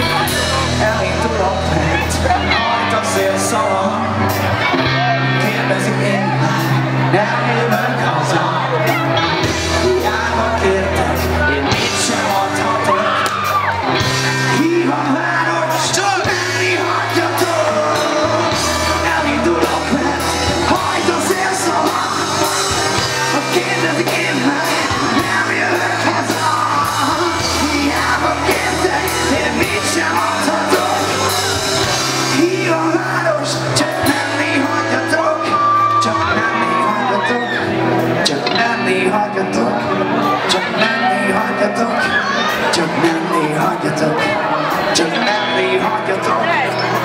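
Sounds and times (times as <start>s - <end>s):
bass guitar long notes: 0.0s - 47.0s
drums: 0.0s - 47.0s
electric guitars: 0.0s - 47.0s
person singing: 0.0s - 47.0s.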